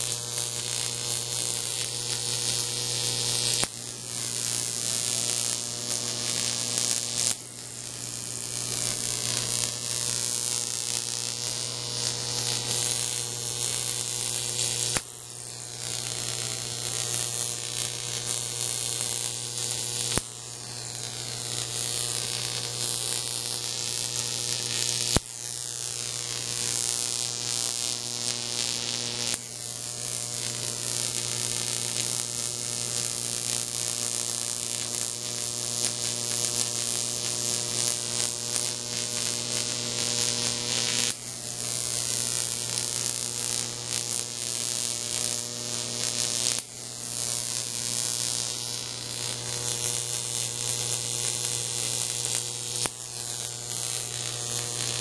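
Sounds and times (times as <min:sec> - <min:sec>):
high-voltage arc buzzing: 0:00.0 - 0:55.0.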